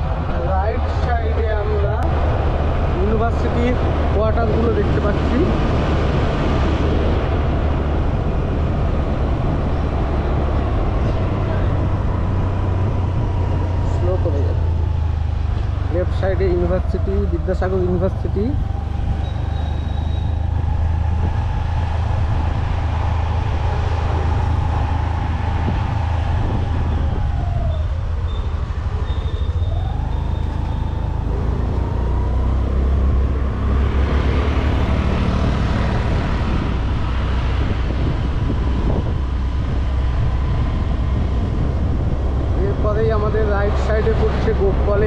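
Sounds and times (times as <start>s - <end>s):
road rumble: 0.0s - 45.0s.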